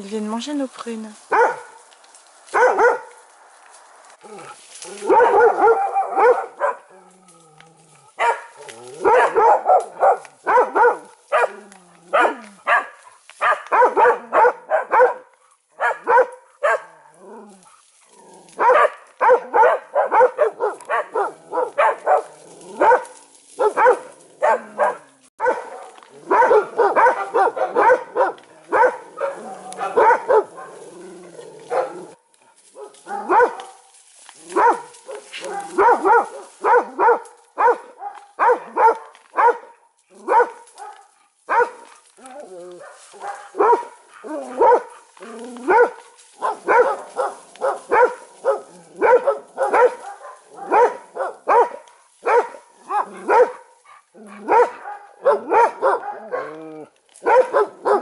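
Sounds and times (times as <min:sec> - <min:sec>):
animal barking: 0:01.3 - 0:01.9, 0:02.5 - 0:03.3, 0:04.2 - 0:58.0.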